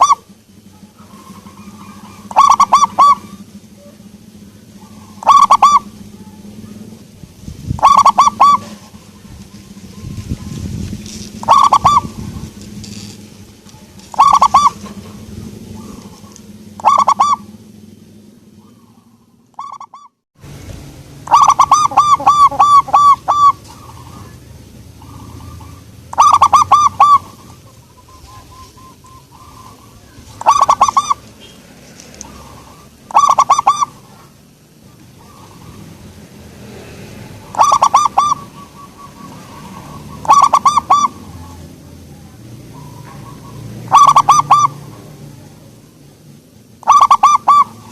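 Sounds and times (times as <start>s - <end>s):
dove cooing: 0.0s - 20.1s, 21.2s - 31.6s, 32.2s - 46.1s, 46.7s - 47.9s.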